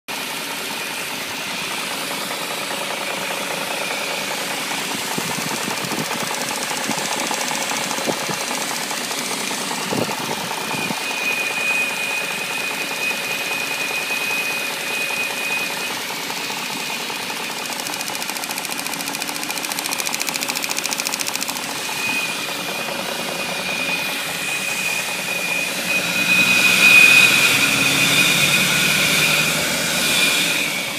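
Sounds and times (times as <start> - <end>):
car engine running: 0.2 - 30.0.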